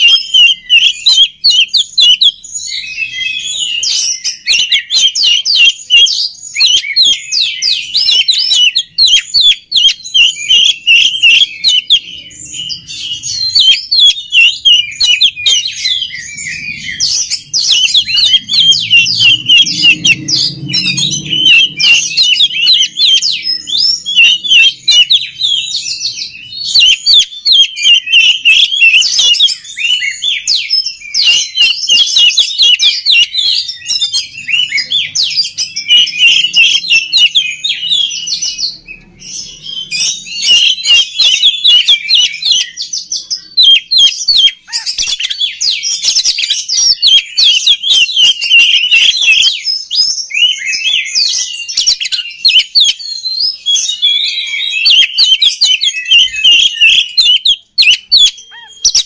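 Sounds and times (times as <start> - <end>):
bird singing chirps and whistles: 0.0 - 59.0.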